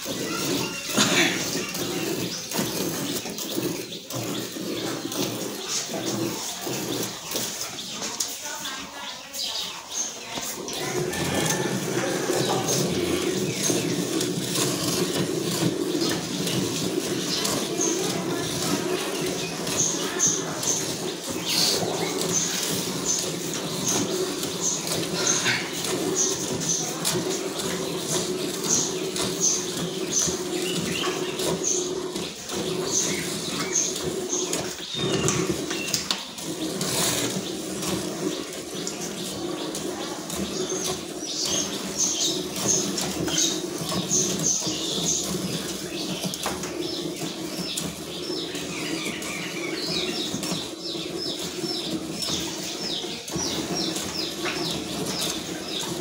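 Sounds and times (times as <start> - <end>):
milk squirting into a pail: 0.0 - 8.4, 10.4 - 56.0.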